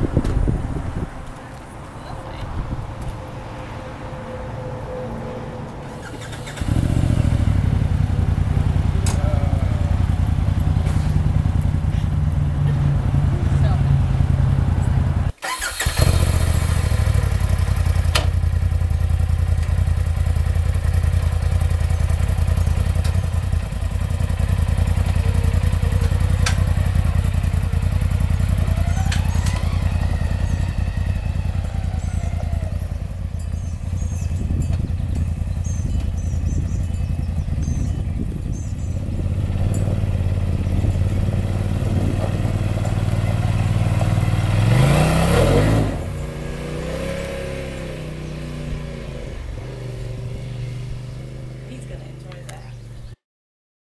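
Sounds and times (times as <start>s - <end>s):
engine idling and revving: 0.0s - 53.1s.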